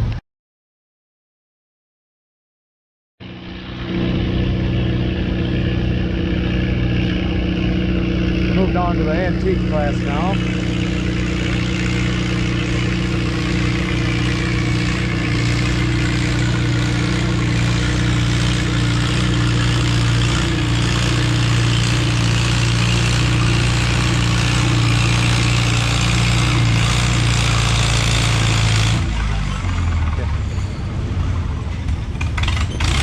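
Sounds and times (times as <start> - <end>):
tractor engine under heavy load: 3.2 - 33.0.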